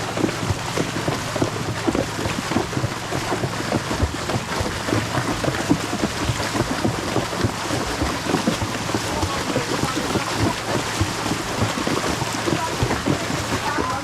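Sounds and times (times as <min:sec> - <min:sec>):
horse splashing through water: 0:00.0 - 0:14.0
rushing water: 0:00.0 - 0:14.0.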